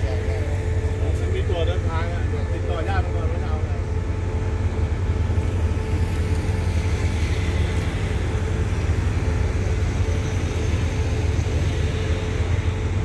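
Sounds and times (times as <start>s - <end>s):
faint steady hum: 0.0s - 13.0s
train low rumble: 0.0s - 13.0s.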